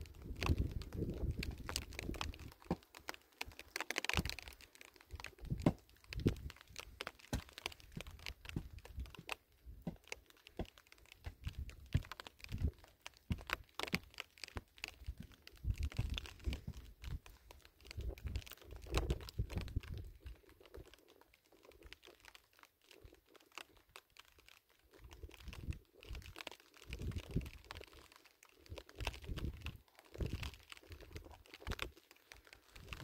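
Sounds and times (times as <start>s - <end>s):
dry brush crackling and crunching: 0.0s - 33.0s.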